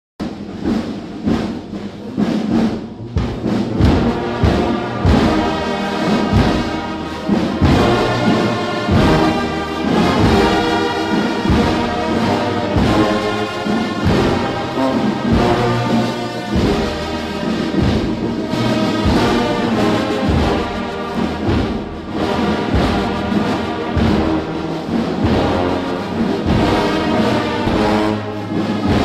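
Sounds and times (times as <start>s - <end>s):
brass instruments playing a tune: 0.2s - 29.0s
steady drum beats: 0.2s - 29.0s.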